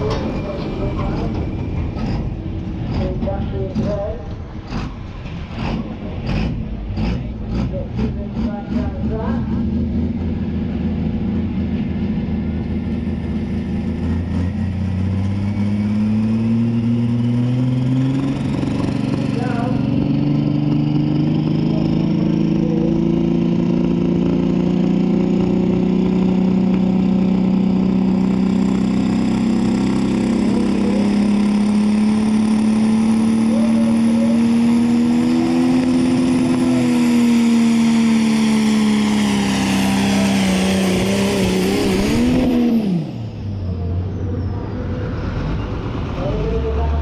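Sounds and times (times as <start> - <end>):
tractor engine at full throttle: 0.0 - 47.0.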